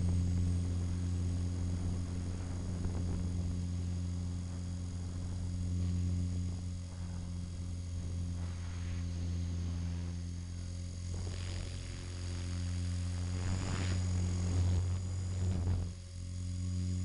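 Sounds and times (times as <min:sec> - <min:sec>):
helicopter motor and rotor droning: 0:00.0 - 0:17.0
high whine: 0:00.0 - 0:17.0.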